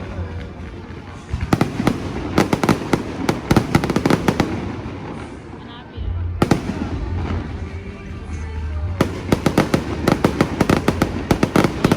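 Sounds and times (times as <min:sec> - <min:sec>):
fireworks cracking and banging: 0:00.0 - 0:11.9.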